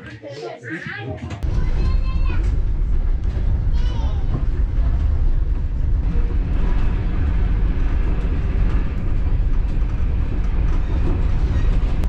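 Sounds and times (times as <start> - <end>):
faint clicks and rattles: 1.2 - 12.0
train rumbling on rails: 1.4 - 12.0.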